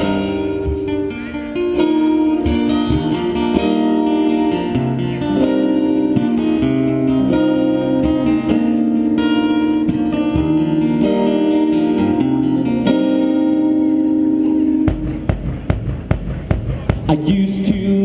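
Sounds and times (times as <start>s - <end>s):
live band playing amplified guitars: 0.0s - 18.0s.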